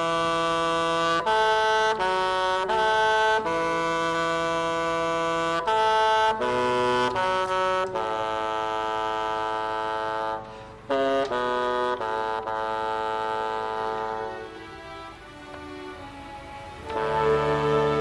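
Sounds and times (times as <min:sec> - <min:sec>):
solo bassoon melody: 0:00.0 - 0:18.0.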